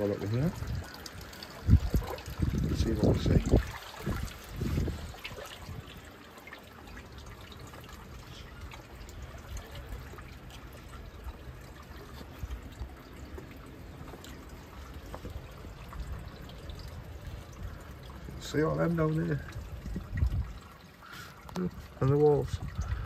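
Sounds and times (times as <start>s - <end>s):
water dripping: 0.0s - 23.0s
water lapping in rock pool: 0.0s - 23.0s.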